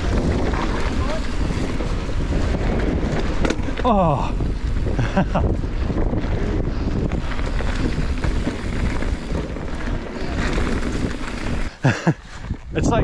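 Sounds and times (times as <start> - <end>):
bike tyres knocking and rattling: 0.0 - 13.0
wind rushing over microphone: 0.0 - 13.0.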